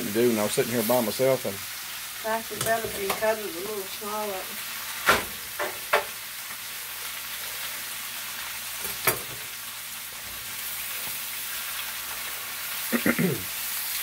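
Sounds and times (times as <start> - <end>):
food sizzling in a skillet: 0.0 - 14.0.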